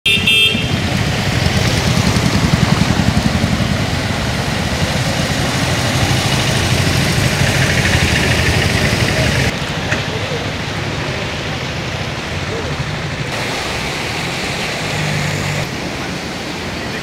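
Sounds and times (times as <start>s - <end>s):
water splashing around wheels: 0.2s - 17.0s
engines running at low speed: 0.5s - 16.9s.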